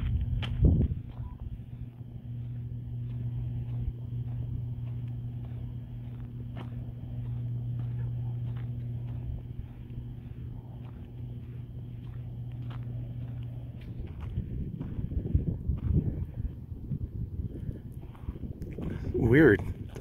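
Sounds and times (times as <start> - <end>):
footsteps on dirt: 0.0 - 20.0
low electrical buzzing: 0.0 - 20.0.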